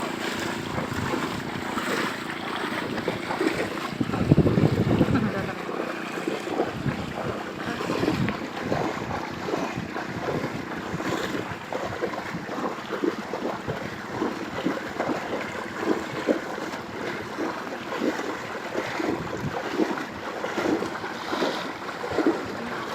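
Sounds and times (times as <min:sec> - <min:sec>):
floodwater sloshing and splashing: 0:00.0 - 0:22.9
wind buffeting microphone: 0:00.0 - 0:22.9.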